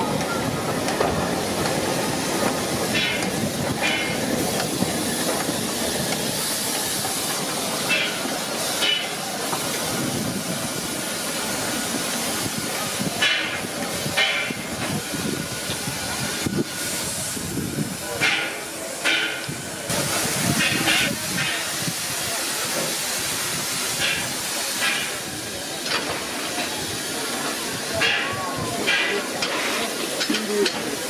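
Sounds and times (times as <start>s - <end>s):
steam hissing steadily: 0.0s - 31.0s
short sharp bursts of steam: 0.4s - 31.0s.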